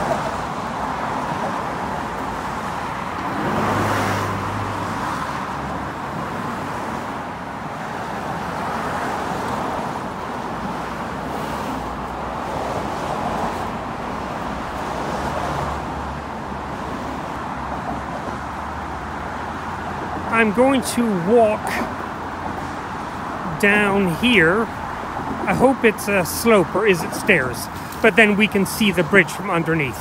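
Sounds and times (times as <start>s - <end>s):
cars passing: 0.0s - 30.0s.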